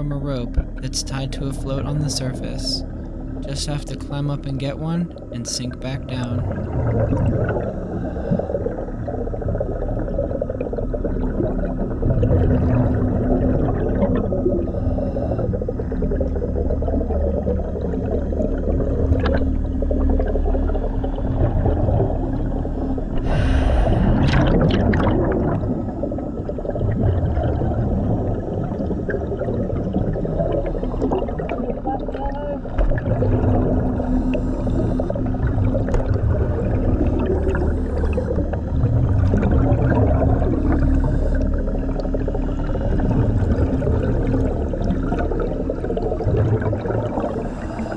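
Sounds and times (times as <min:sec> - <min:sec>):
low rumble: 0:00.0 - 0:47.9
underwater exhaust bubbles rushing: 0:00.0 - 0:47.9.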